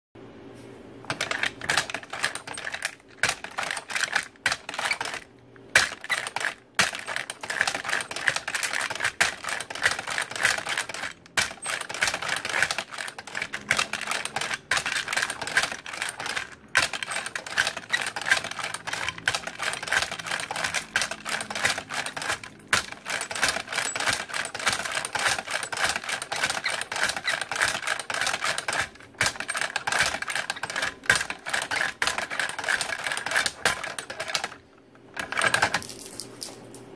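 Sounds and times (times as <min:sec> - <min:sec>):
belt-loading machine clicking: 0:01.0 - 0:35.8.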